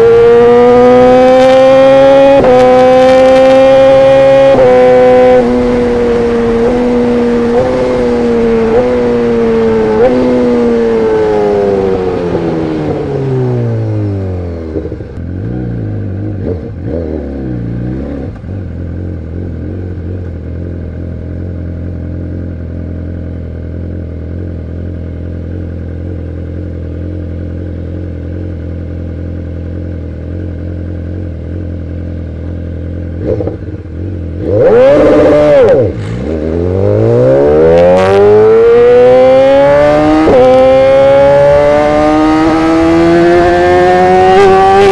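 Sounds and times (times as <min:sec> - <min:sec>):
motorcycle engine revving and idling: 0:00.0 - 0:44.9.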